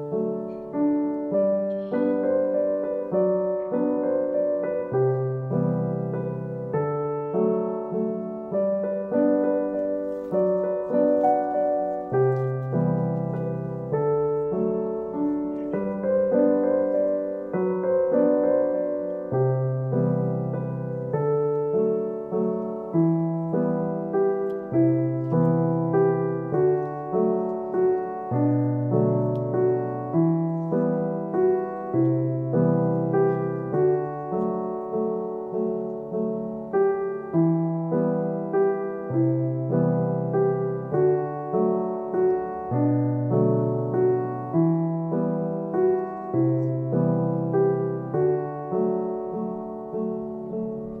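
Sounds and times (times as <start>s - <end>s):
gentle piano melody: 0.0s - 51.0s.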